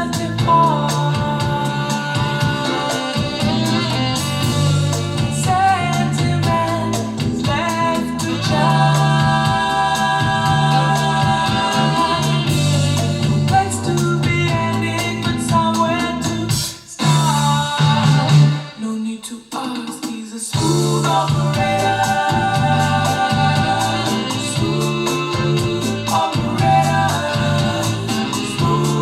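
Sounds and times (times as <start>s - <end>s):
song with vocal guitar and bass: 0.0s - 29.0s.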